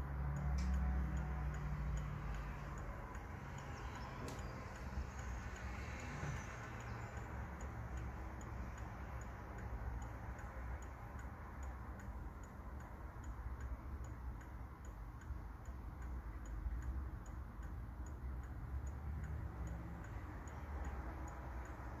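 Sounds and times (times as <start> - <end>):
mantel clock ticking: 0.0 - 22.0.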